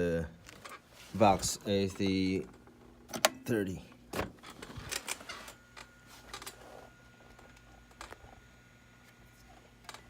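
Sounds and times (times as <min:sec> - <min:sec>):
electrical hum with high whine: 0:00.0 - 0:10.0.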